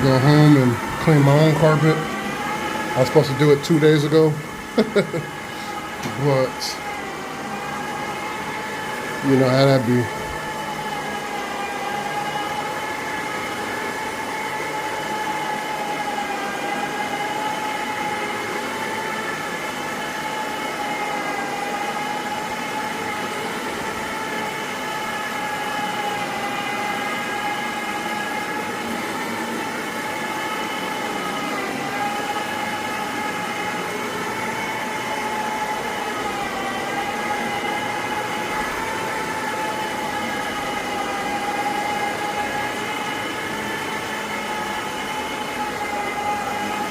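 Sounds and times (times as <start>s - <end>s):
cleaning machine motor whine: 0.0s - 46.9s.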